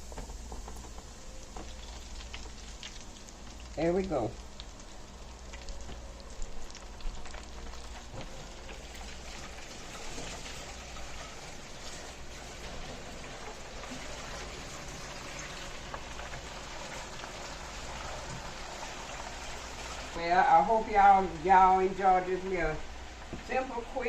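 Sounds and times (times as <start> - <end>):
shrimp sizzling in hot oil: 0.0 - 20.2.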